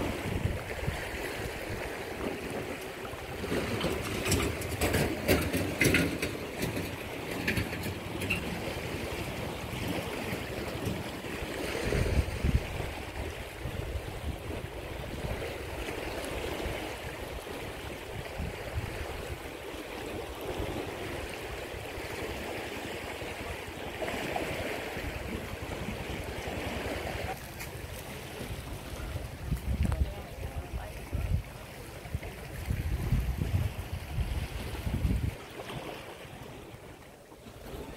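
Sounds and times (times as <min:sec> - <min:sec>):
floodwater rushing: 0:00.0 - 0:37.9
water rumble: 0:00.0 - 0:37.9.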